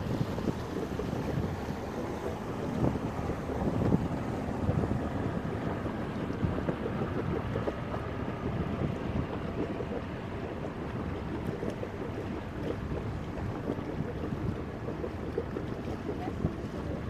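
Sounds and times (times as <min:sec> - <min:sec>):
water washing along hull: 0:00.0 - 0:17.0
wind buffeting microphone: 0:00.0 - 0:17.0.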